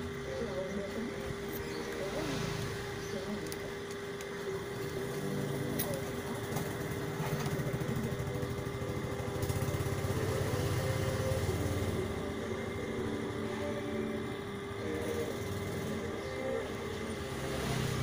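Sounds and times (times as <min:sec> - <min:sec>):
small engine running: 0:00.0 - 0:18.0
steady hum: 0:00.0 - 0:18.0.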